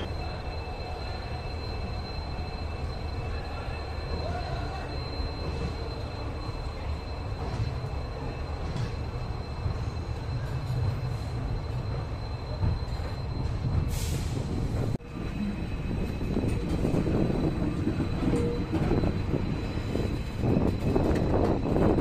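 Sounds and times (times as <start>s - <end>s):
train rattling and clatter: 0.0s - 22.0s
train wheels rumbling on rails: 0.0s - 22.0s.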